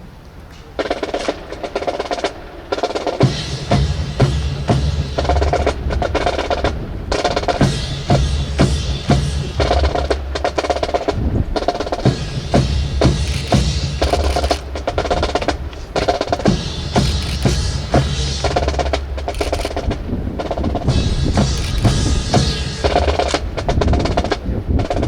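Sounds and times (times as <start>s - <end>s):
snare drum rolls: 0.6s - 25.0s
bass drum beats: 3.2s - 25.0s.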